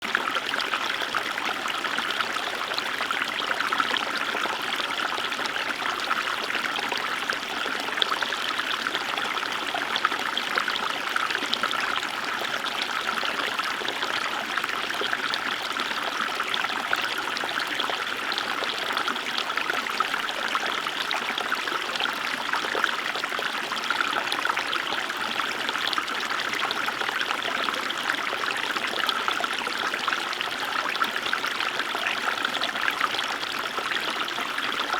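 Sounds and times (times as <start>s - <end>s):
small river babbling: 0.0s - 34.9s.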